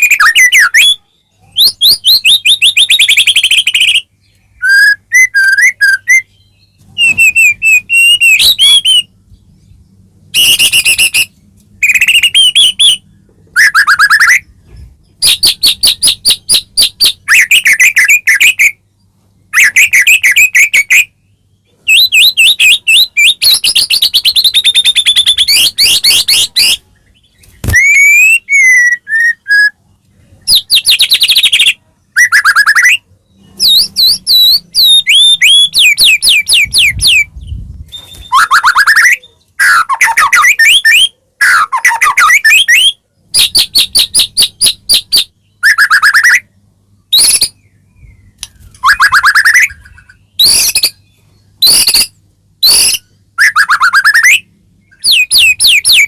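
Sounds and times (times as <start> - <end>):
songbird whistles and trills: 0.0 - 18.8, 19.5 - 56.0.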